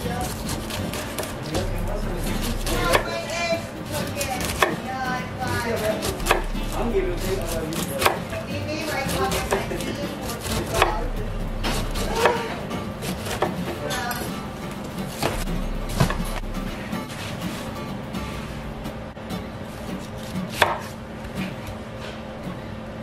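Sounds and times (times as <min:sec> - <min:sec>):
knife slicing pineapple rind: 0:00.0 - 0:17.7, 0:19.7 - 0:21.8.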